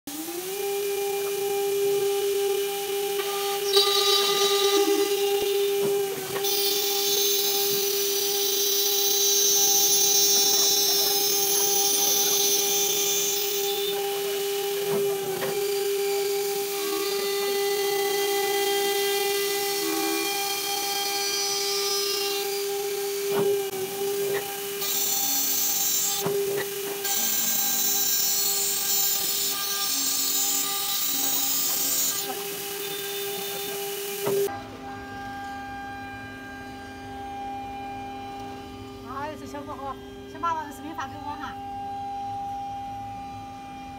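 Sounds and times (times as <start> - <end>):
drill spindle whining: 0.1 - 43.9
high grinding squeal of drill bit: 0.1 - 43.9.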